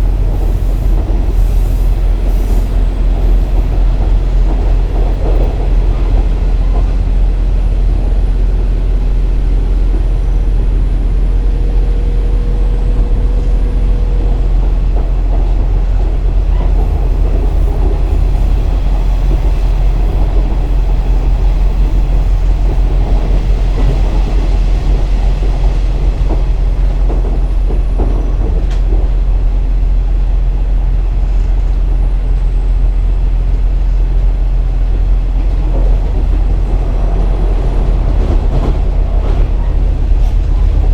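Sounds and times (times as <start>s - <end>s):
diesel engine rumble: 0.0s - 40.9s
train wheels on rails: 0.0s - 40.9s.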